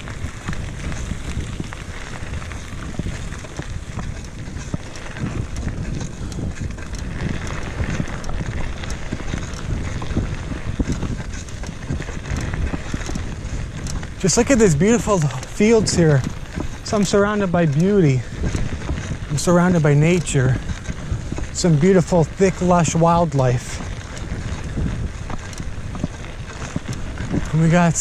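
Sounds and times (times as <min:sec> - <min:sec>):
bicycle tyres on dirt trail: 0:00.0 - 0:28.0
wind buffeting microphone: 0:00.0 - 0:28.0.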